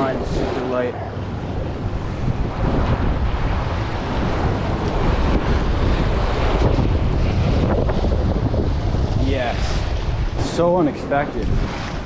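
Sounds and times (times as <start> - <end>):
ocean surf washing over rocks: 0.0 - 12.0
wind buffeting microphone: 0.0 - 12.0.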